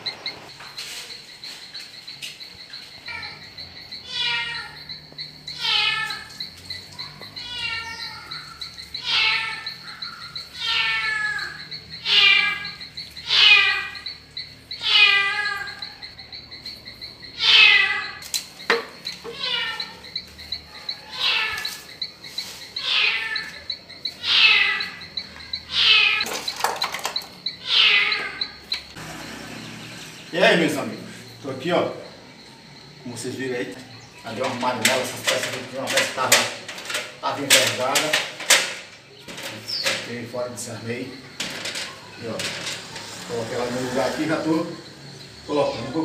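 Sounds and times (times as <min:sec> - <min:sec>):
high insect trill: 0:00.0 - 0:46.0.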